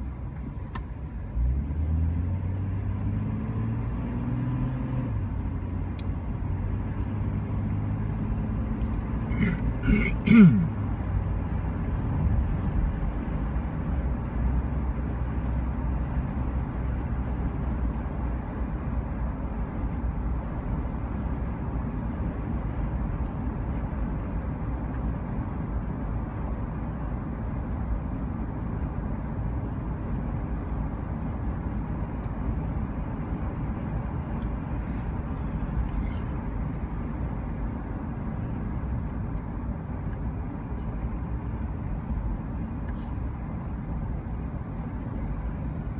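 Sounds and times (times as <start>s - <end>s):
vehicle driving rumble: 0.0s - 45.9s.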